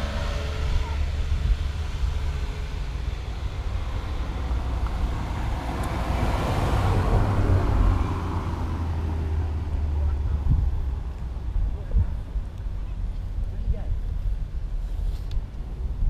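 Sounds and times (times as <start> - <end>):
motor vehicle passing by: 0.0 - 15.2
steady low rumble: 0.0 - 16.0.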